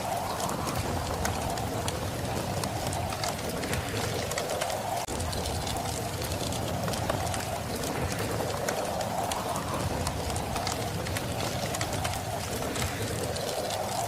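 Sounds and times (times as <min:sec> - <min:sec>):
howling wind: 0:00.0 - 0:14.0
wood fire crackling: 0:00.0 - 0:14.0
low rumble: 0:00.4 - 0:14.0.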